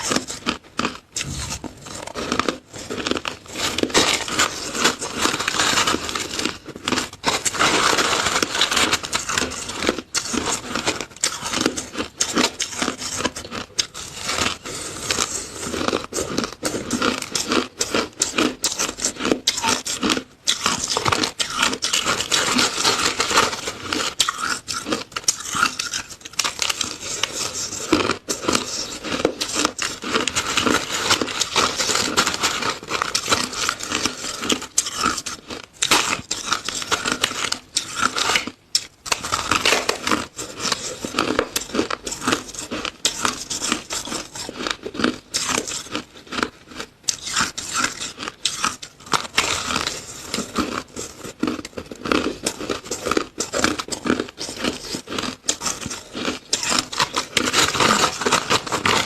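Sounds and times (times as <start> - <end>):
crunching shaved ice: 0.0 - 59.0.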